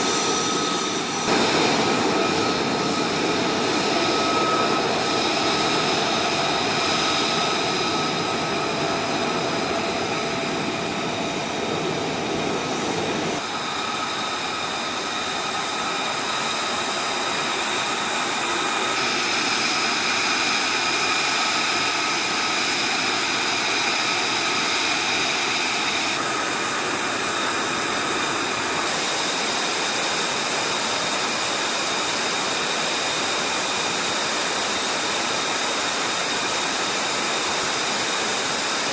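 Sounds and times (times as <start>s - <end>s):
jet engine rushing and whining: 0.0s - 38.9s.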